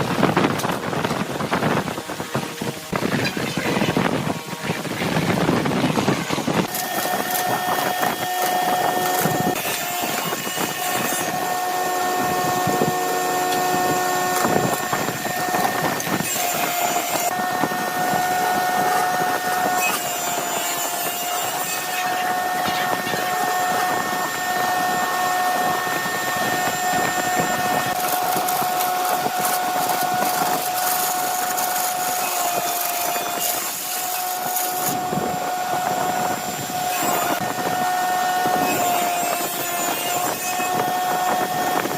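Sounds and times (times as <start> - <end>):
wood lathe motor whine: 0.0 - 41.9.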